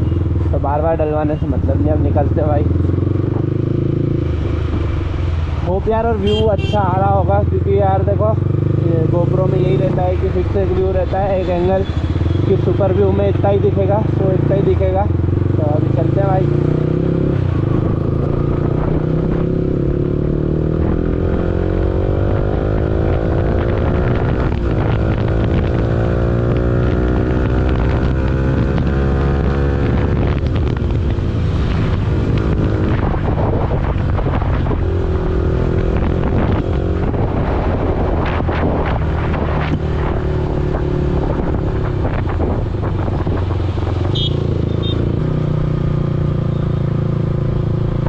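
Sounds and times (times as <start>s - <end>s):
motorcycle engine accelerating: 1.4s - 5.6s, 6.3s - 11.1s, 11.8s - 48.0s.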